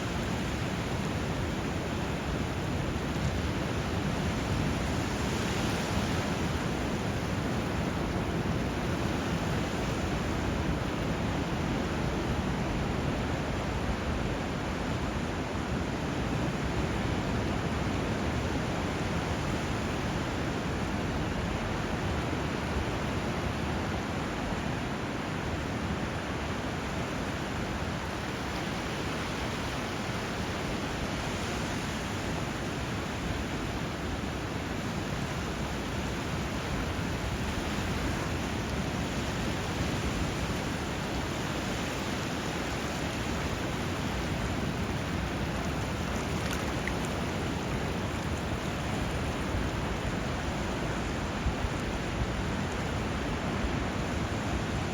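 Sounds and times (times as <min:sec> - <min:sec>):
rushing river water: 0:00.0 - 0:54.9.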